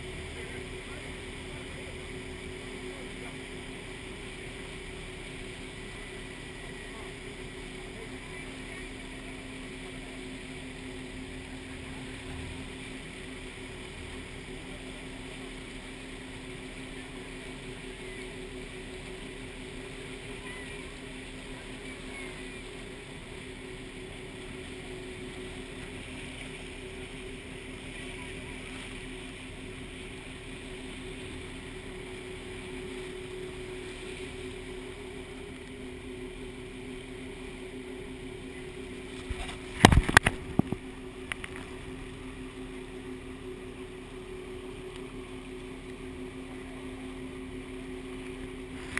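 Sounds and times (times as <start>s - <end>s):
boat engine humming: 0.0s - 48.9s
water rushing: 0.0s - 48.9s.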